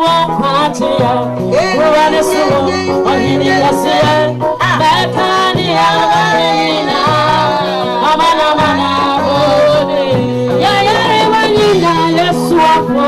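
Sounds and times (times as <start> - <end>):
bass notes: 0.0 - 12.3
band playing praise music: 0.0 - 13.0
people singing: 0.0 - 13.0.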